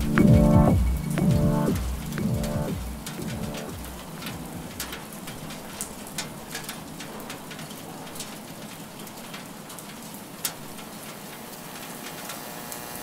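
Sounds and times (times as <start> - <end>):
raindrop ticks: 0.0 - 12.8
rain falling: 0.0 - 13.0.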